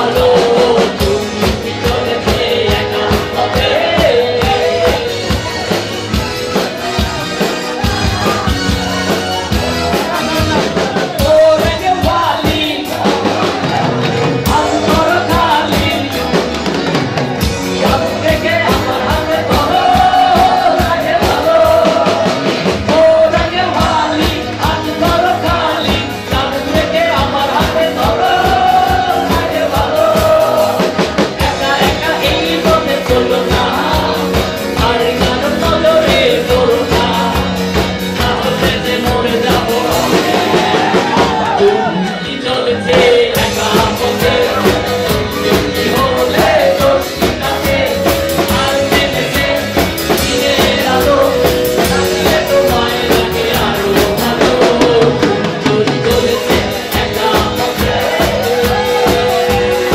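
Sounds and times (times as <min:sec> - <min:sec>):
drum kit beat: 0:00.0 - 0:59.9
live band playing upbeat song: 0:00.0 - 0:59.9
person singing: 0:00.0 - 0:59.9.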